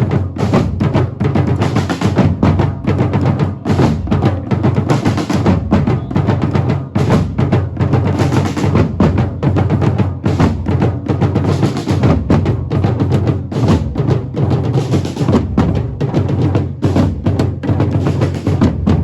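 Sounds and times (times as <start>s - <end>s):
drum and percussion music: 0.0s - 19.0s.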